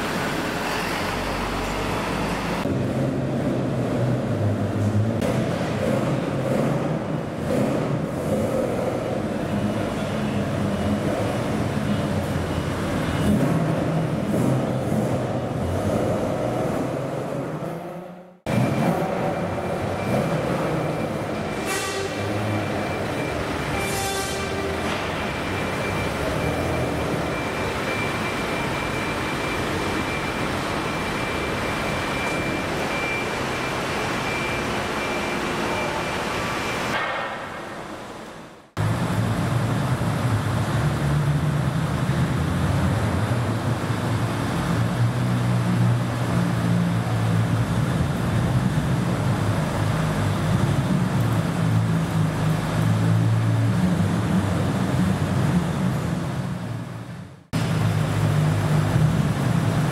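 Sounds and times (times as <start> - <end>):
car engines rumbling: 0.0 - 59.9
vehicle din: 0.0 - 59.9.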